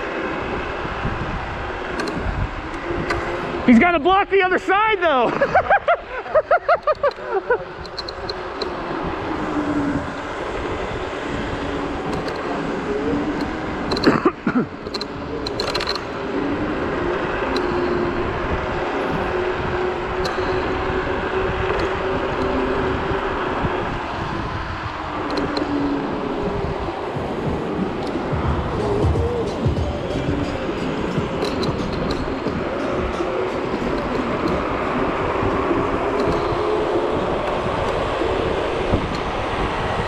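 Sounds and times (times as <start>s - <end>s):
road noise: 0.0s - 40.0s
wavering motor whine: 0.0s - 40.0s
wind rushing over microphone: 0.0s - 40.0s.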